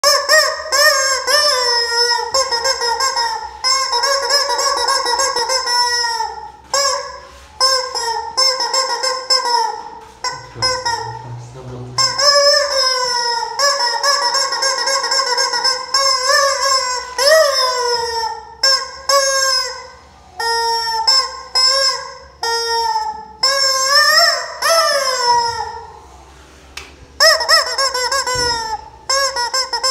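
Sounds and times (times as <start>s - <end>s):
rubber chicken toy squawking: 0.0s - 11.2s, 12.0s - 26.0s, 27.2s - 29.9s.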